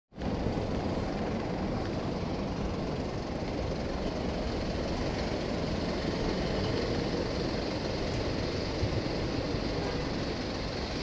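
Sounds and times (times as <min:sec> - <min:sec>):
motorcycle road noise: 0:00.1 - 0:11.0.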